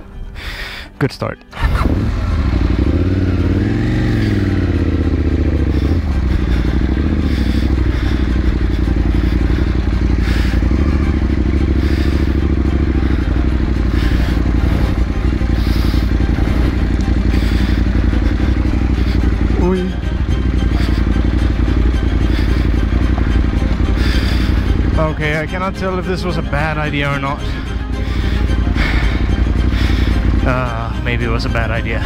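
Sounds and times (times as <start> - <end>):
motorcycle engine running: 1.5 - 32.0.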